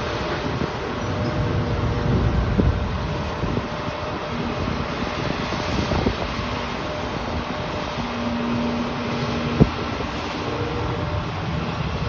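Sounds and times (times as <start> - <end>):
heavy diesel machinery running: 0.0 - 12.0
wind buffeting microphone: 0.0 - 12.0.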